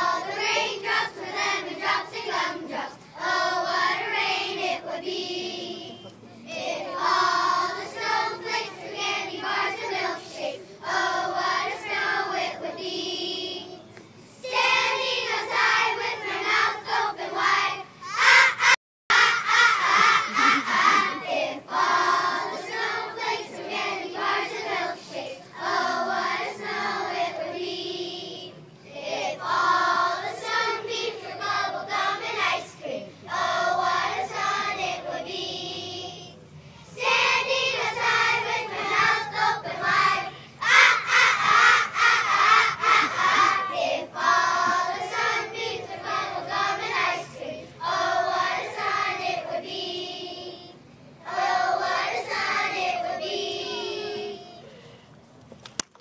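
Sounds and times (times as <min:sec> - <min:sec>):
children's choir singing: 0:00.0 - 0:54.7.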